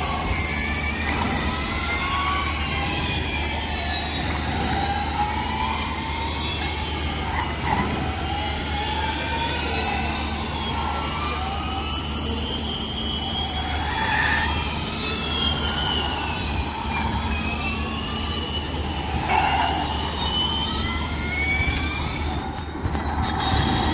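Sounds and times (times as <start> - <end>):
electric race cars whining: 0.0 - 23.9.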